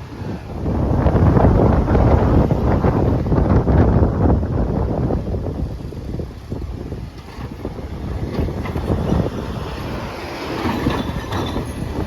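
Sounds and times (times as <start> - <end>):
garbage truck engine rumbling: 0.0 - 12.0
wind buffeting microphone: 0.0 - 12.0.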